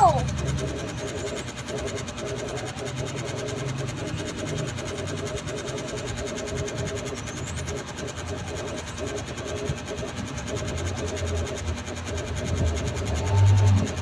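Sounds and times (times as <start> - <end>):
mechanical hum with low drone: 0.0 - 14.0.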